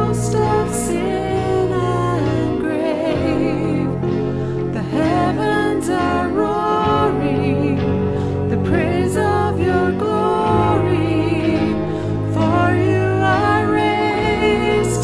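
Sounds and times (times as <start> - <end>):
electric guitar accompaniment: 0.0 - 15.0
woman singing worship song: 0.0 - 15.0.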